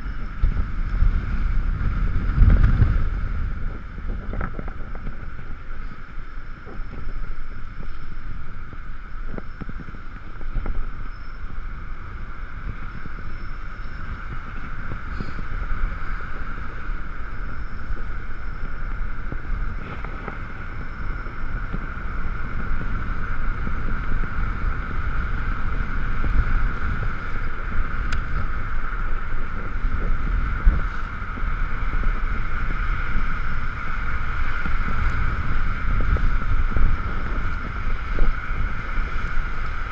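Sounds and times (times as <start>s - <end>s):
electric scooter whine: 0.0s - 39.9s
road noise: 0.0s - 39.9s
wind rumble on microphone: 0.0s - 39.9s.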